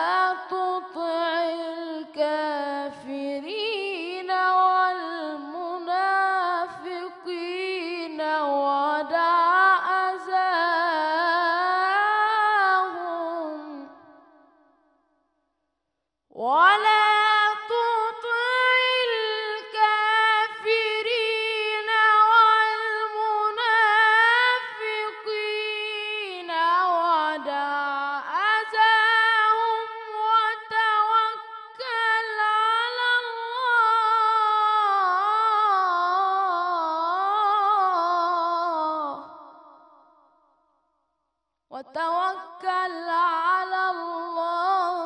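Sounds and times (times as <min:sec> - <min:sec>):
boy reciting melodically: 0:00.0 - 0:14.0, 0:16.4 - 0:39.5, 0:41.8 - 0:45.0.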